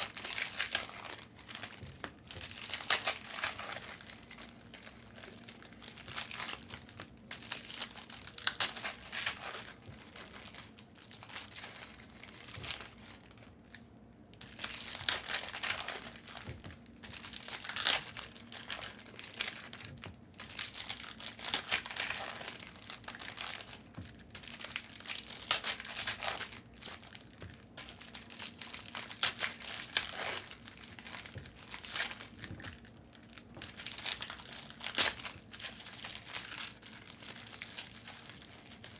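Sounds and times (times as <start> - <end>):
foil wrappers tearing and crinkling: 0.0 - 13.8, 14.4 - 38.9.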